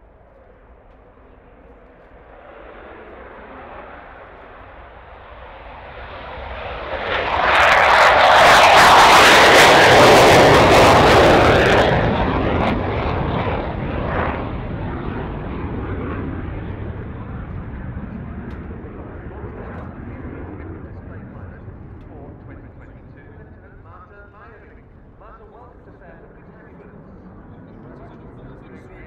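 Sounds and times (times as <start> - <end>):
jet taking off: 0.0 - 29.0.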